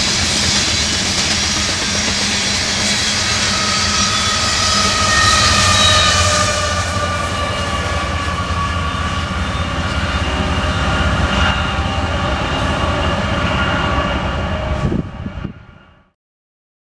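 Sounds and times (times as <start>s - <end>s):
train wheels rumbling on rails: 0.0s - 16.1s
diesel locomotive whine: 0.0s - 16.2s.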